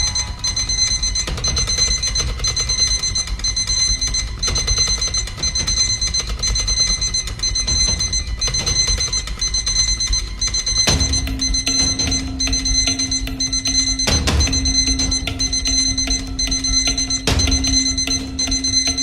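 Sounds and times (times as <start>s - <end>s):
high-pitched electronic beeping: 0.0s - 19.0s.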